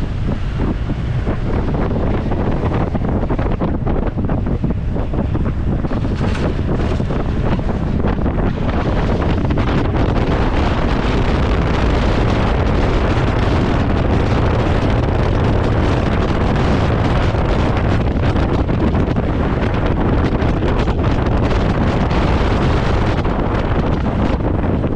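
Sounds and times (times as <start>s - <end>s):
motorcycle rumble: 0.0s - 24.9s
wind buffeting microphone: 0.0s - 24.9s.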